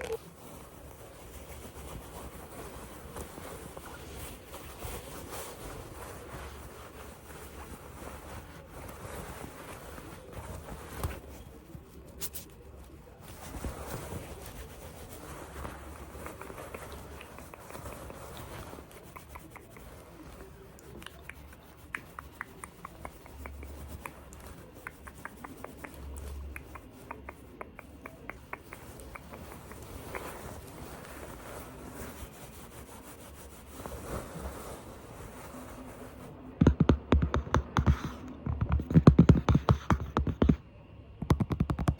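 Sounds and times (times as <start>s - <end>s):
rustling and scratching of objects: 0.0s - 41.9s.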